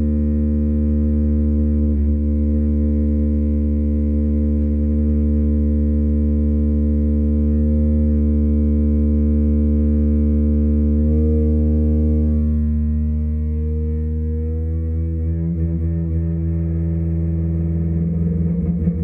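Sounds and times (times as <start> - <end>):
low sustained musical drone: 0.0 - 19.0.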